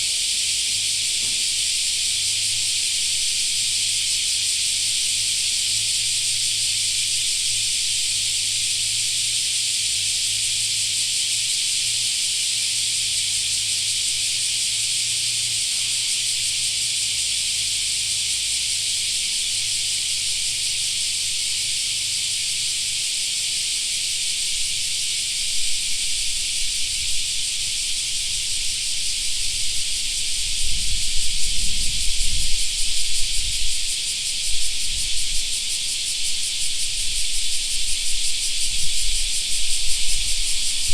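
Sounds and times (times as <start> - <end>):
cicadas droning: 0.0 - 40.9.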